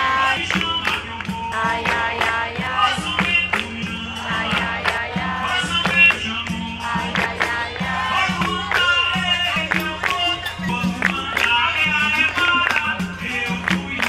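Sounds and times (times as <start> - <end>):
hand clapping: 0.0 - 14.0
percussion beat: 0.0 - 14.0
voices singing together: 0.0 - 14.0.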